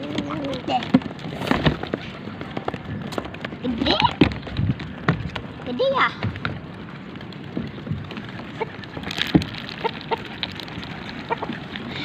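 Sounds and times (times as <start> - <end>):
pigeons pecking at corn: 0.0 - 12.0.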